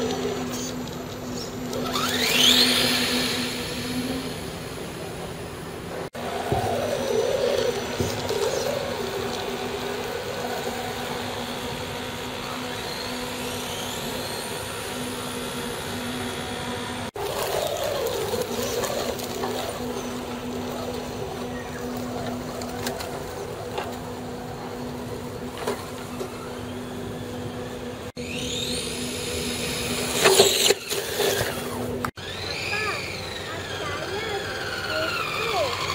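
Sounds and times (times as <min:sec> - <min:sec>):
electric motor and gears whining: 0:00.0 - 0:35.9
steady low hum: 0:00.0 - 0:35.9.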